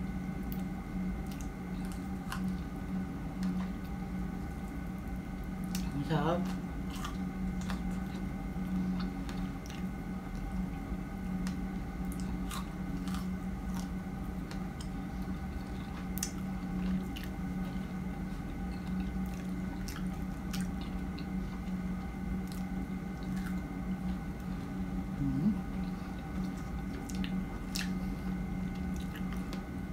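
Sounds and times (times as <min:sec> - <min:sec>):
steady low hum: 0:00.0 - 0:29.9
wet chewing of strawberries: 0:00.4 - 0:10.8, 0:11.4 - 0:29.7.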